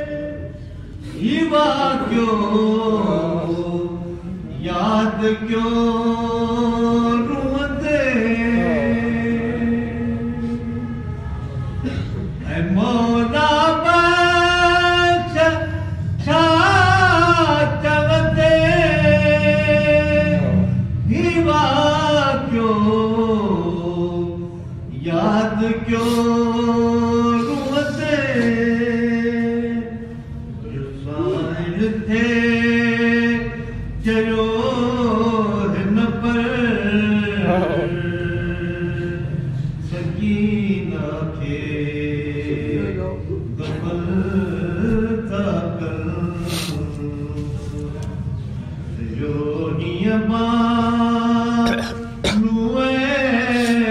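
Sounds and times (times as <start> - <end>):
man singing devotional lament: 0.0 - 11.0, 11.8 - 53.9.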